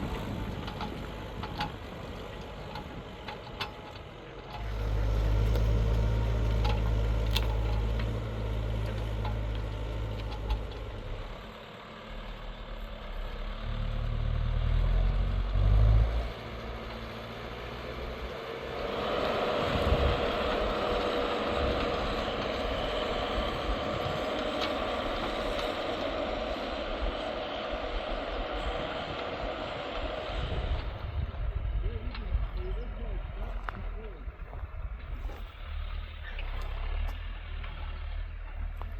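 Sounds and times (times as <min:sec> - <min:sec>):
tractor diesel engine rumble: 0:00.0 - 0:38.9.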